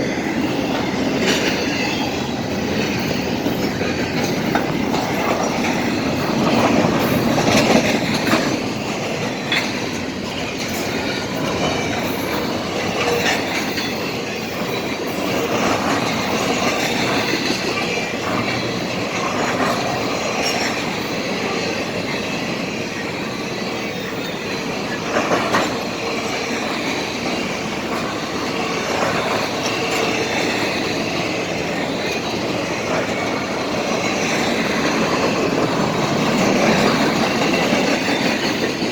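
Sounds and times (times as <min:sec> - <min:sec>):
train wheels knocking over rail joints: 0:00.0 - 0:38.9
train wheels squealing: 0:00.0 - 0:38.9.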